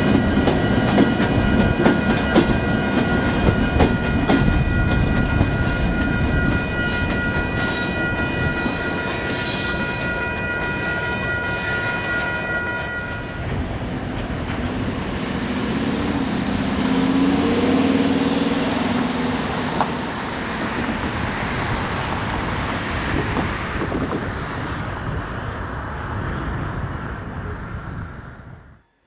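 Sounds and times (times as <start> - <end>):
locomotive engine drone: 0.0 - 28.8.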